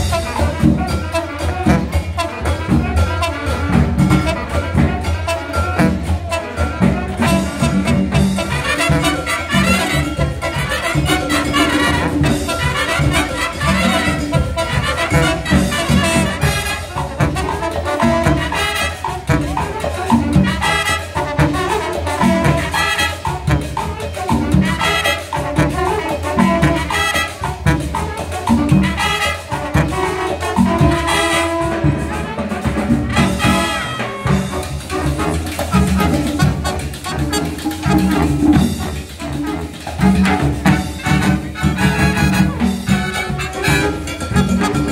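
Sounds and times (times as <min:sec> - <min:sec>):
marching band playing: 0:00.0 - 0:44.9.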